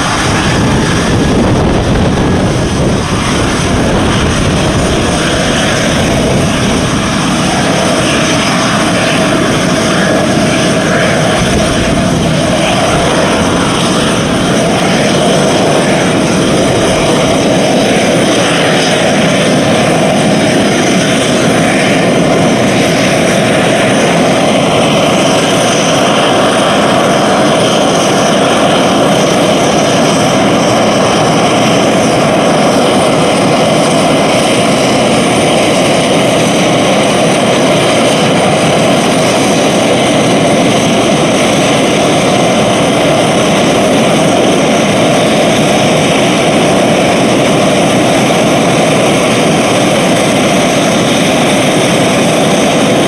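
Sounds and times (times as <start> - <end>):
faint high turbine whine: 0.0 - 53.0
jet turbines running: 0.0 - 53.0.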